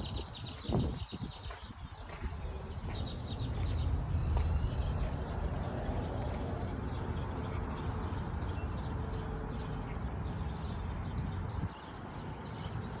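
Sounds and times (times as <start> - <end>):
steady low rumble: 0.0 - 11.8
small birds chirping: 0.0 - 13.0.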